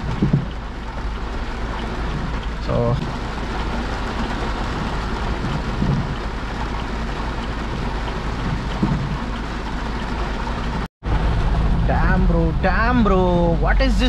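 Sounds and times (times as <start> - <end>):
car interior rumble: 0.0 - 14.0
heavy rain on car: 0.0 - 14.0.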